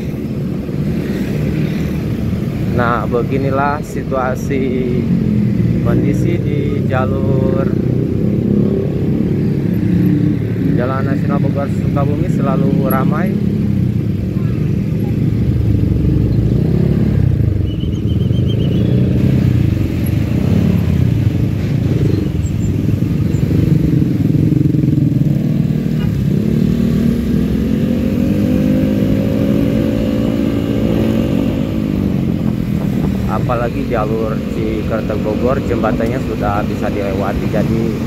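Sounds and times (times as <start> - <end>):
surrounding traffic: 0.0 - 38.0.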